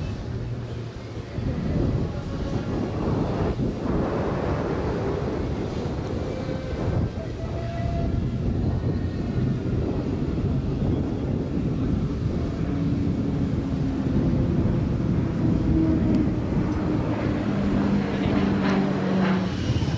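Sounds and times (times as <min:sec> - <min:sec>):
propeller aircraft engine drone: 0:00.0 - 0:19.9.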